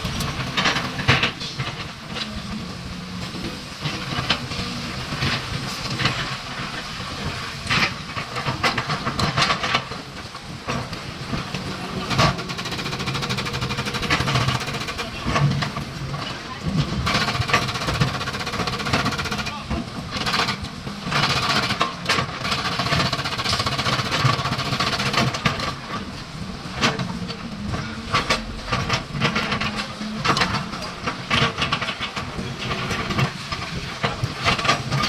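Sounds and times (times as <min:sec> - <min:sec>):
diesel engines under load: 0:00.0 - 0:35.0.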